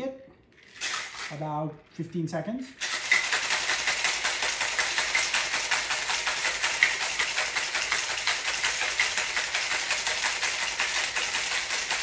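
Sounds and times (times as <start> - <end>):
ice rattling in cocktail shaker: 0.5 - 1.6, 2.8 - 12.0.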